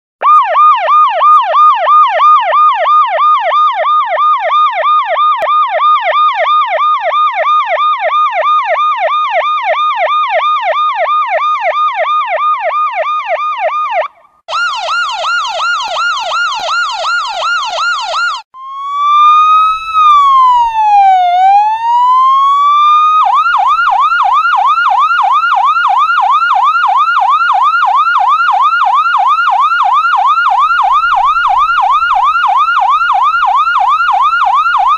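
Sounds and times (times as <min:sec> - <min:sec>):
electronic police siren: 0:00.2 - 0:34.9.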